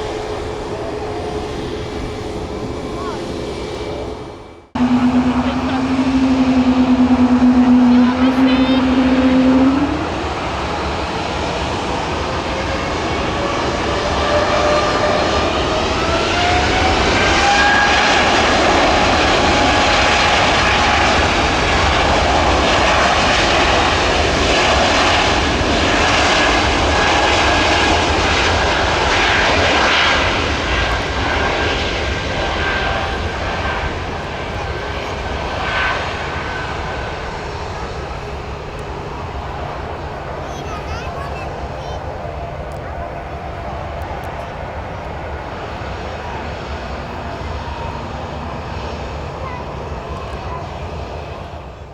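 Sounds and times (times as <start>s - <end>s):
jet engines whining at take-off: 0.0s - 51.9s.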